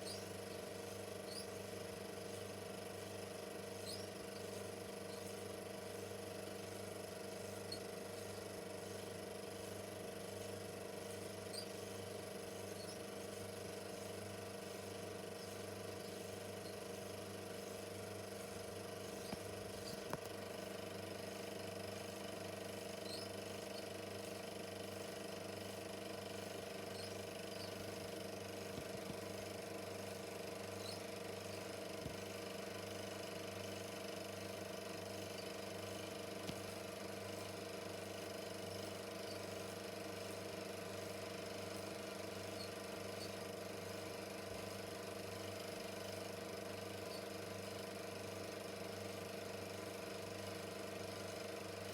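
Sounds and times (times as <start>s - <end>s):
film projector whirring: 0.0s - 51.9s.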